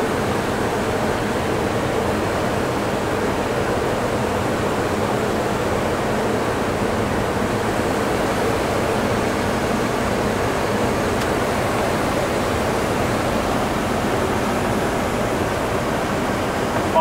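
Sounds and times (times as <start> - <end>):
air-conditioning: 0.0 - 17.0.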